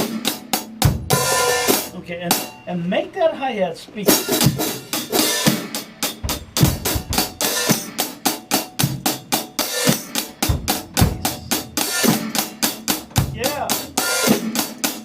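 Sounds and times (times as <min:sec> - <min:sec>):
drum kit groove: 0:00.0 - 0:01.9, 0:04.1 - 0:15.0.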